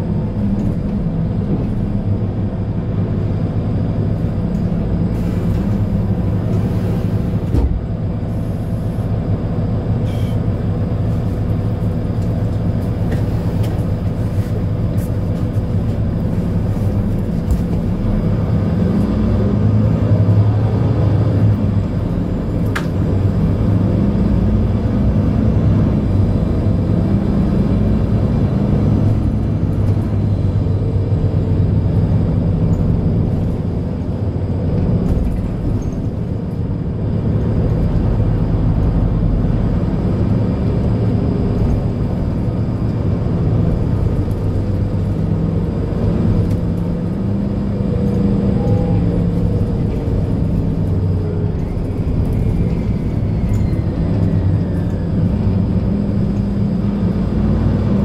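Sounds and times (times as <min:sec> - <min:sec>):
bus diesel engine rumble: 0:00.0 - 0:58.0.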